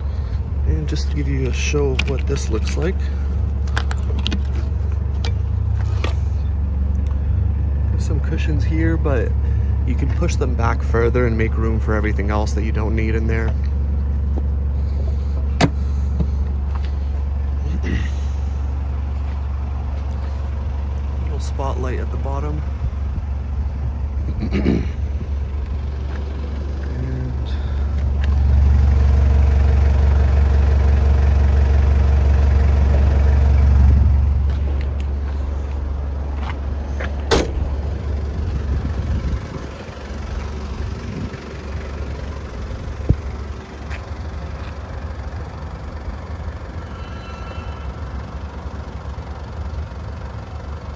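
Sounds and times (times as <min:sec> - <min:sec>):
vehicle engine rumble: 0:00.0 - 0:50.9.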